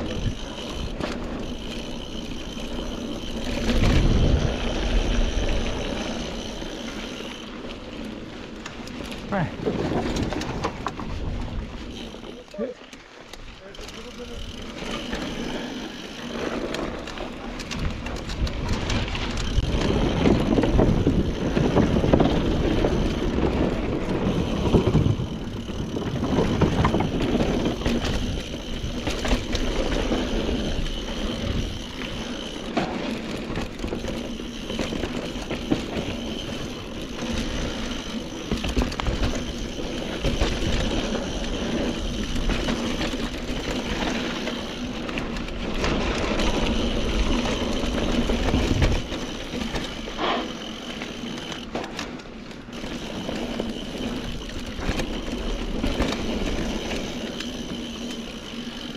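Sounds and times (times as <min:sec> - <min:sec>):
bike rattling and knocking: 0:00.0 - 0:58.9
mountain bike tyres on dirt trail: 0:00.0 - 0:58.9.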